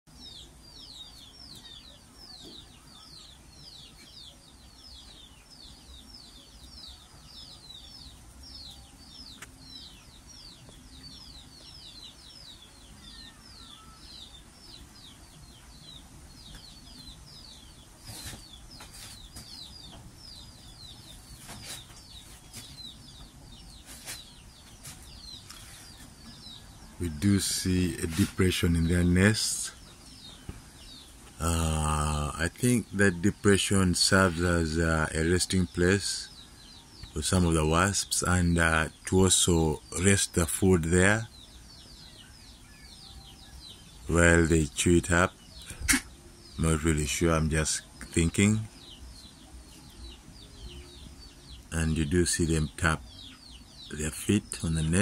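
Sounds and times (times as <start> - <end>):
birds chirping: 0.1 - 55.0.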